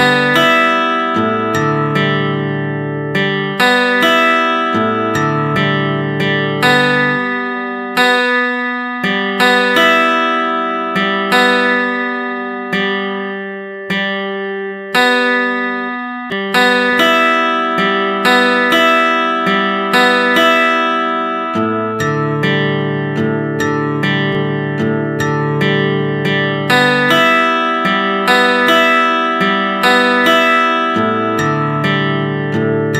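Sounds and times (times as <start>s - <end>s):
acoustic guitar chords: 0.0s - 32.9s.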